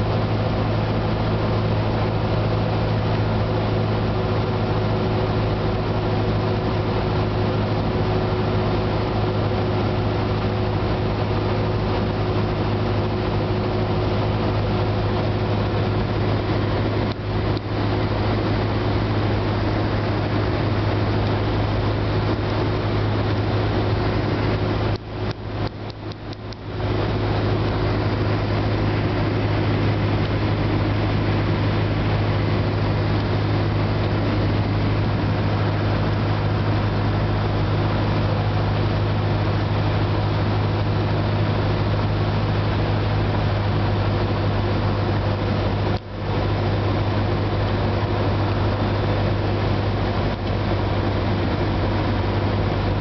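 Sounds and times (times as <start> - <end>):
aircraft engine and propeller droning: 0.0 - 53.0.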